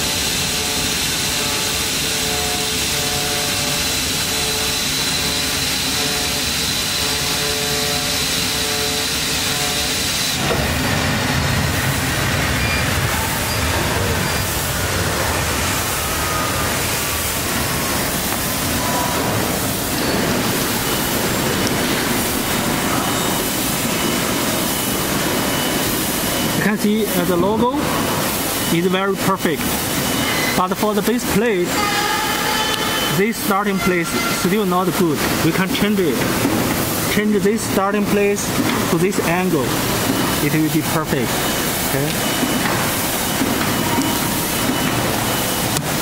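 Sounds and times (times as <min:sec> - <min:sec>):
cutting machine hiss and whine: 0:00.0 - 0:46.0.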